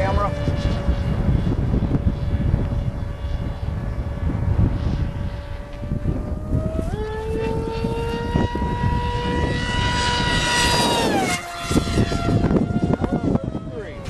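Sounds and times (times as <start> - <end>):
rc jet motor whine: 0.0 - 14.0
wind rumble on microphone: 0.0 - 14.0.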